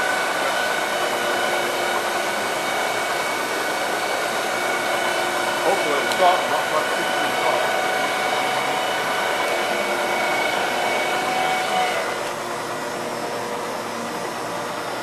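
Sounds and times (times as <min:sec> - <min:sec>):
multi-tone machine whine: 0:00.0 - 0:15.0.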